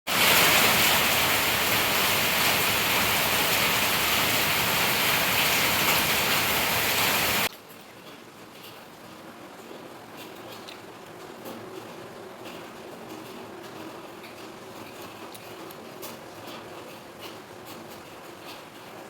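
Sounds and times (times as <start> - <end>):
steady rain hissing: 0.1 - 19.0.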